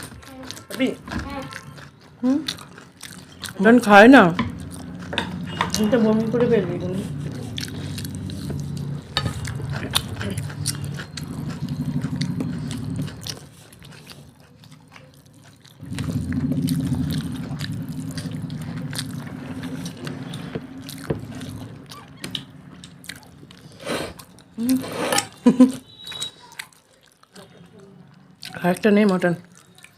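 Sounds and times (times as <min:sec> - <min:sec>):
low rumble of chewing: 0:00.0 - 0:24.8, 0:26.1 - 0:29.9
wet chewing with clicks and smacks: 0:00.0 - 0:29.9.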